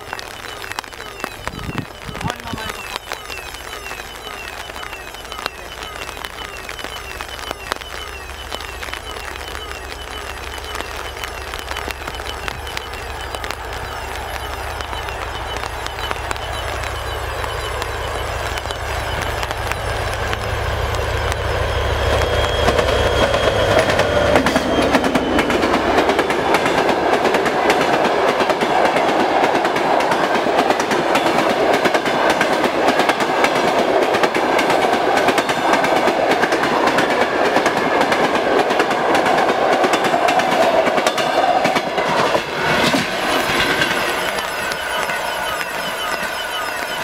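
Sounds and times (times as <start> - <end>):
diesel locomotive rumbling: 0.0 - 47.0.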